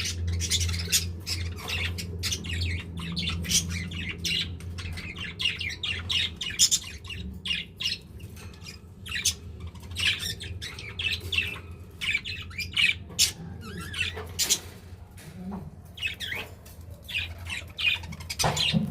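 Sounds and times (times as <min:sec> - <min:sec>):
budgerigars chattering and squawking: 0:00.0 - 0:14.8, 0:16.0 - 0:18.9
steady low hum: 0:00.0 - 0:18.9.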